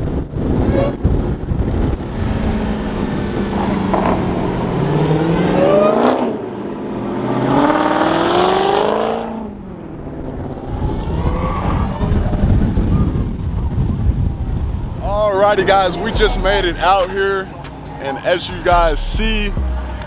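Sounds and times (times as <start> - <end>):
cars driving past: 0.7 - 13.4, 14.4 - 20.0.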